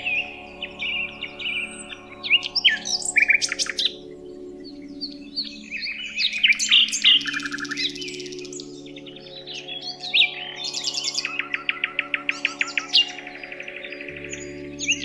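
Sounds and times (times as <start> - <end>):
birds chirping and trilling: 0.0 - 15.0
low steady drone: 0.0 - 15.0.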